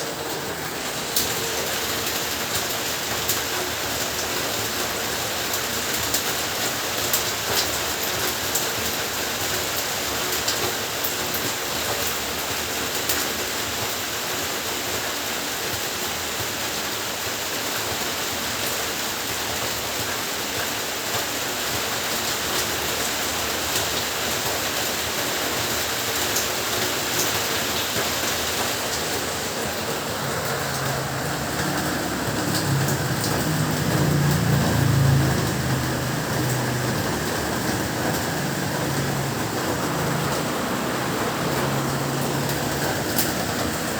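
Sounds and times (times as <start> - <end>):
heavy rain falling: 0.0 - 43.9
raindrops ticking close by: 0.0 - 43.9.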